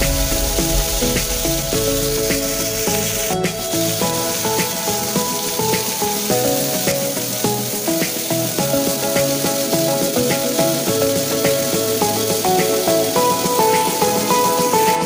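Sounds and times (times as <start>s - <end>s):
background music with held notes: 0.0s - 15.0s
meat sizzling in grill pan: 0.0s - 15.0s.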